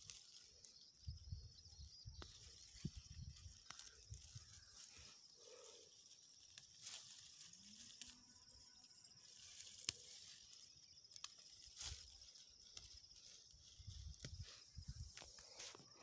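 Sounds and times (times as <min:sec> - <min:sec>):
leaves rustling and clicking: 0:00.0 - 0:16.0.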